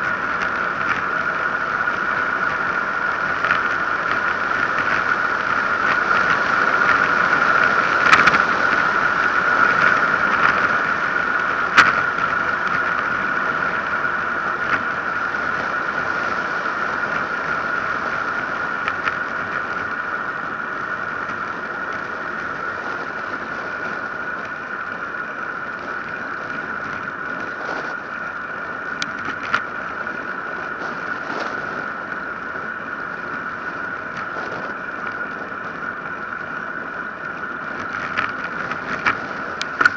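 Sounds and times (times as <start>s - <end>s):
wind and tyre noise: 0.0s - 39.9s.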